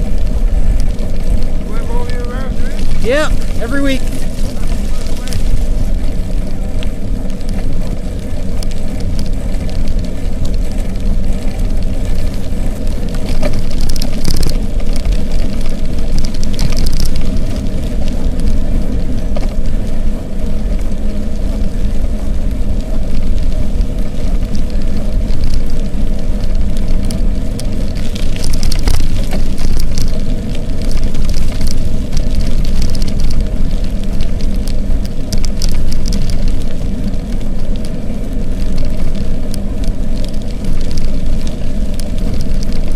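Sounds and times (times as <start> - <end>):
bike tyres hissing on wet pavement: 0.0 - 42.9
wind rumbling on microphone: 0.0 - 42.9.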